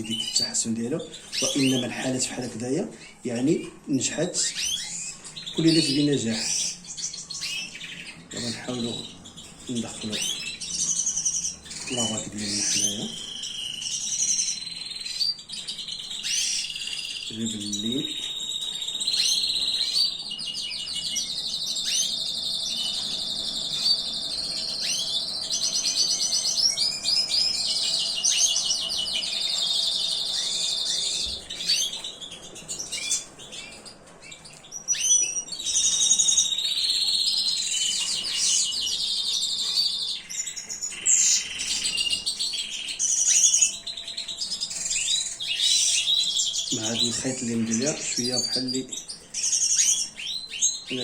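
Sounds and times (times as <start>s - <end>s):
songbirds trilling and chirping: 0.0s - 51.0s.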